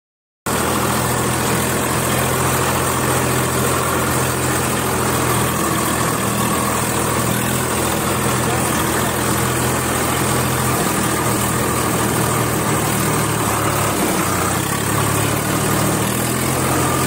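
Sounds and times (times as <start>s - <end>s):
tractor diesel engine running: 0.5s - 17.0s.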